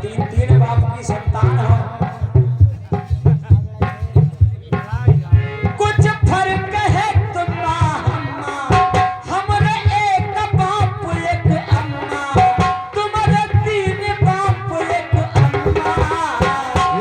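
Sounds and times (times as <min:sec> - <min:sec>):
person singing: 0:00.0 - 0:17.0
tabla drum beat: 0:00.0 - 0:17.0.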